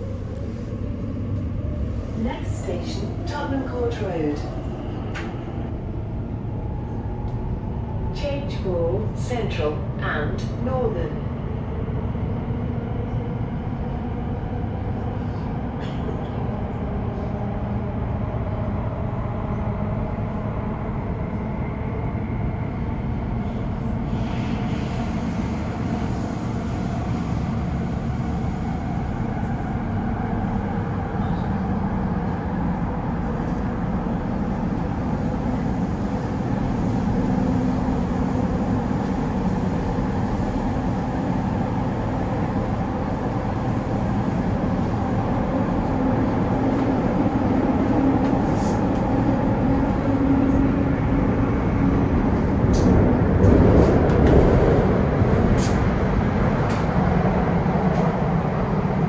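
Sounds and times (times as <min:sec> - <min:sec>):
train rumble and hum in tunnel: 0:00.0 - 0:59.0.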